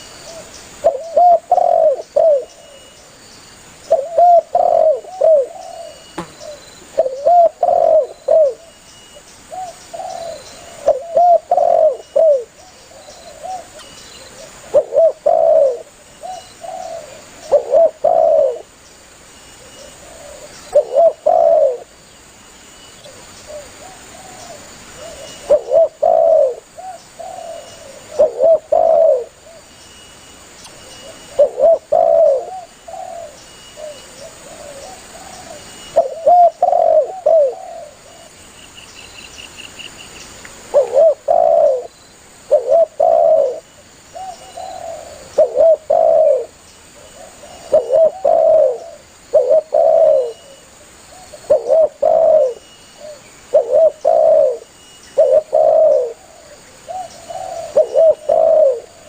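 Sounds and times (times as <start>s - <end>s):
dove cooing: 0.0s - 2.9s, 3.9s - 8.8s, 9.5s - 18.7s, 19.6s - 21.9s, 23.0s - 29.7s, 31.0s - 38.3s, 40.7s - 59.0s.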